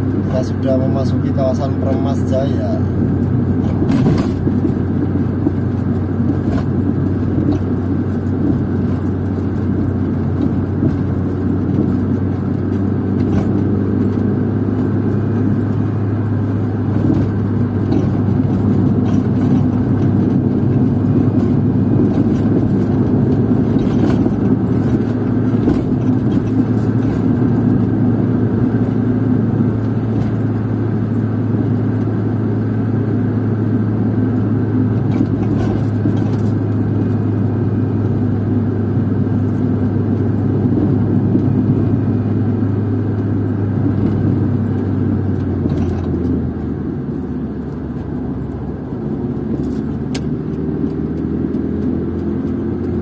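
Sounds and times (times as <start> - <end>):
car engine hum: 0.0 - 53.0
tyre and road noise: 0.0 - 53.0.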